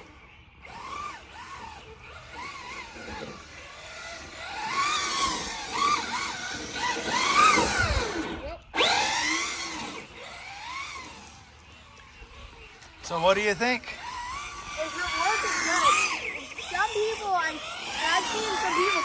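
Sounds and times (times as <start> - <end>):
toy car electric motor whining: 0.0 - 19.0.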